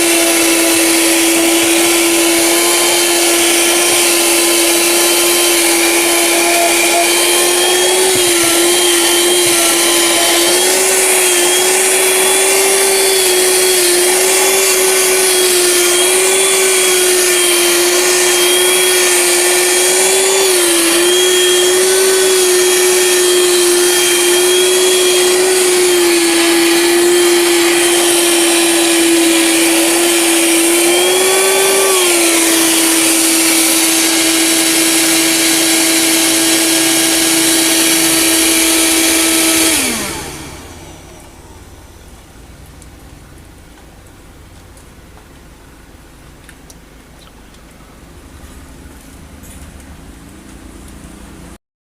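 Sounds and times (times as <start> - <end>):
handheld vacuum cleaner running: 0.0 - 42.1.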